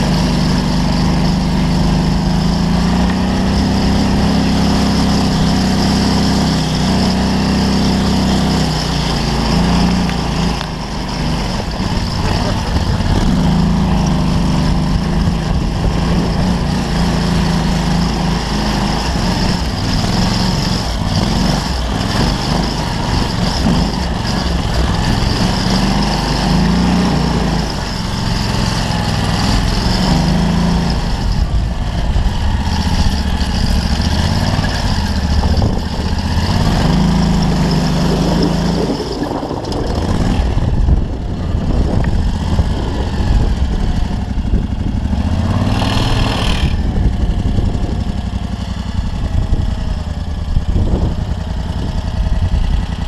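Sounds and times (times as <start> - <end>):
dune buggy engine revving: 0.0 - 53.0.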